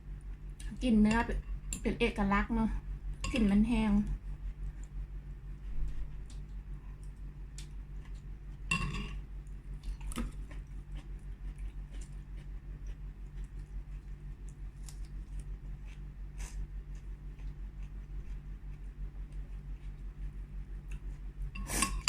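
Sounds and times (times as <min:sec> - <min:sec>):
low pulsing hum: 0:00.0 - 0:22.0.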